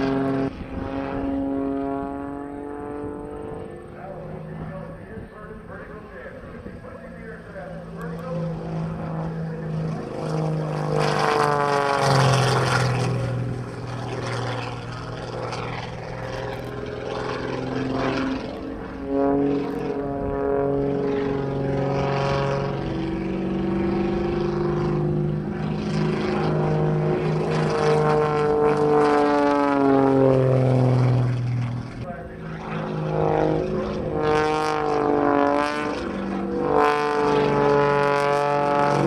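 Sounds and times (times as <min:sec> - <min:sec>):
propeller plane engine: 0:00.0 - 0:39.0.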